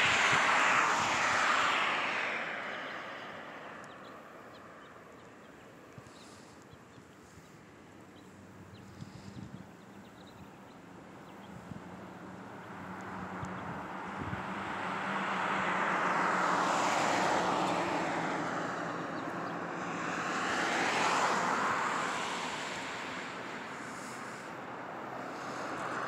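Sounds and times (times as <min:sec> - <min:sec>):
airplane flying over: 0:00.0 - 0:26.0.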